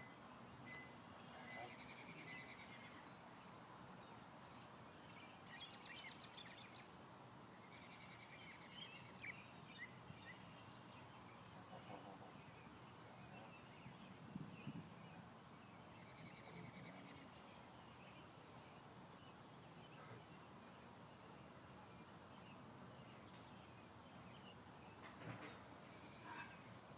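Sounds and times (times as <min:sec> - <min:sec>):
small birds chirping and trilling: 0:00.0 - 0:26.9.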